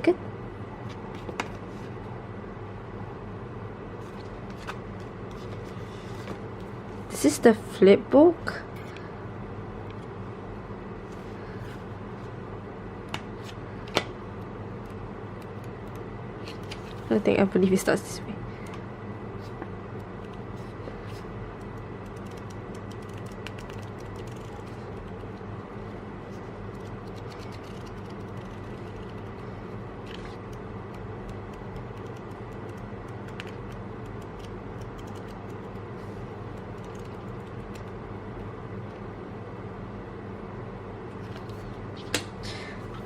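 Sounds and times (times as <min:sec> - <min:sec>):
low room hum: 0:00.0 - 0:43.0.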